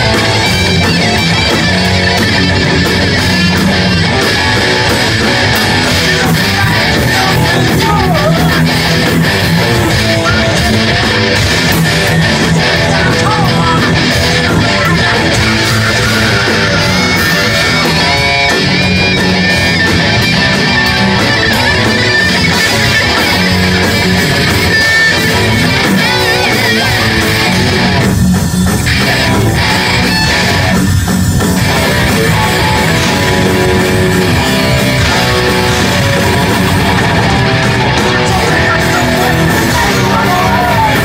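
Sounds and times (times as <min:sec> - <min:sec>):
live metal band playing: 0:00.0 - 0:41.0.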